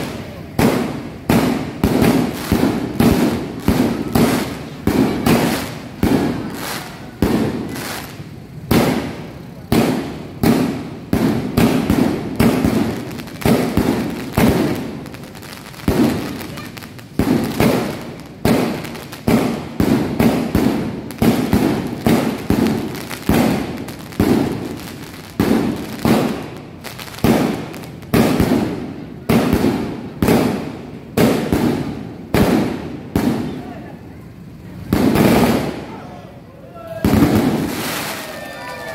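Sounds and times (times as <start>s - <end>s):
firework shots banging: 0.0s - 33.7s, 34.8s - 36.0s, 37.0s - 38.4s.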